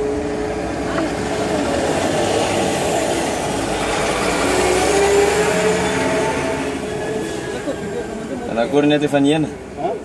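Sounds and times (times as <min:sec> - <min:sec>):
road noise: 0:00.0 - 0:10.0
vehicle engine: 0:00.0 - 0:10.0.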